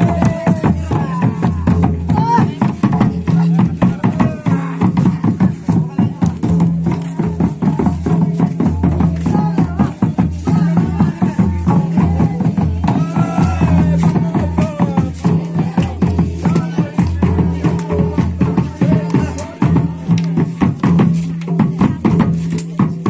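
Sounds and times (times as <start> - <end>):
fast dense drumming: 0.0 - 22.9.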